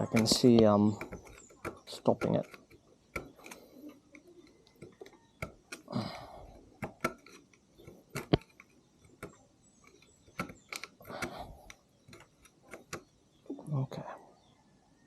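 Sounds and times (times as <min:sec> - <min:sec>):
screwdriver scraping metal: 0:00.0 - 0:05.9, 0:06.8 - 0:13.1
small metal parts clicking: 0:00.0 - 0:13.2.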